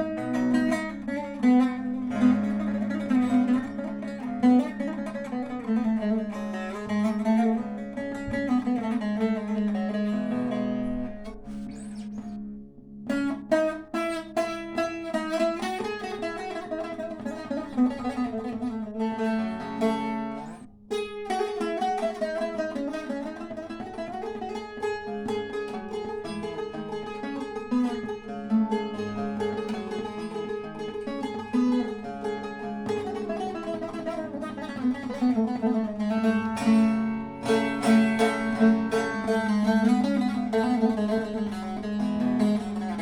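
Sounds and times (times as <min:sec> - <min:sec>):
fast-picked lute melody: 0:00.0 - 0:43.0.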